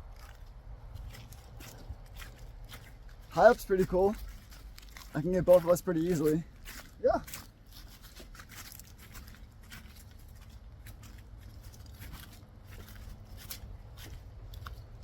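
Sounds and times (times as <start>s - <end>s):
footsteps crunching on trail: 0.0s - 15.0s.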